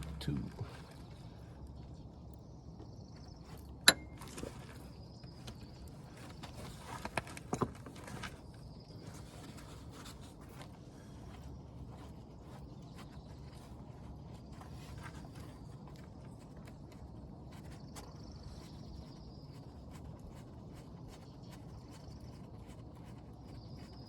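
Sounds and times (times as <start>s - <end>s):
faint outdoor background noise: 0.0s - 24.0s.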